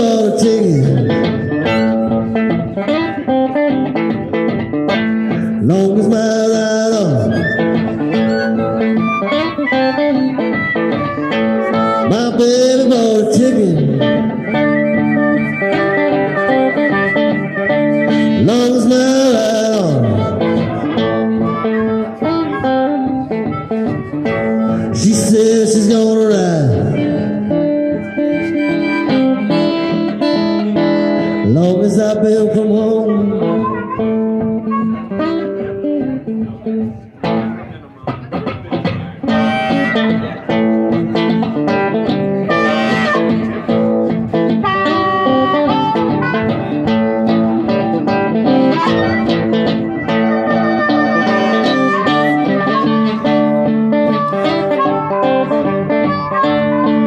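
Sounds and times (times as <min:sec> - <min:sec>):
harmonica tones: 0:00.0 - 0:37.6, 0:38.8 - 0:57.0
picked blues guitar: 0:00.0 - 0:57.0.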